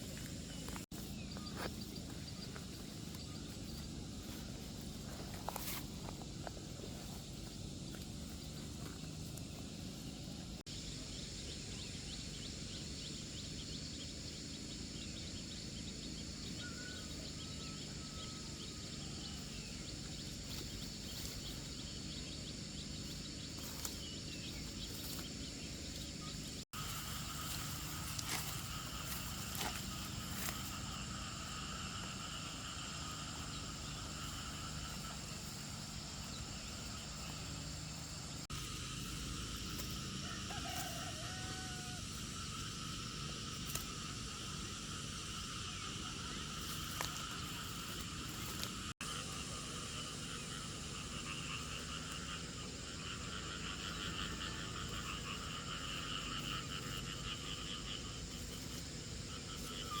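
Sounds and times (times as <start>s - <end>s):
insects chirring: 0.0s - 60.0s.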